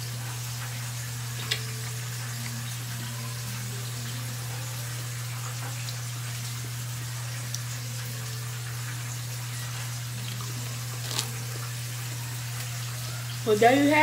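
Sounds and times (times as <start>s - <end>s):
chicken frying in hot oil: 0.0s - 14.0s.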